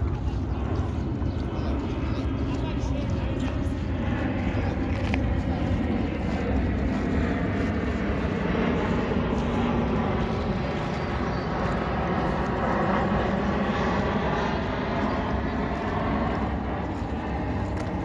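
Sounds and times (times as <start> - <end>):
jet airliner rumbling overhead: 0.0 - 18.0.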